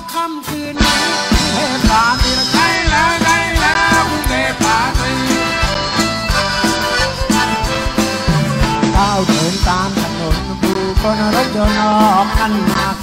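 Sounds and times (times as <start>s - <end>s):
live rock band music: 0.0s - 13.0s.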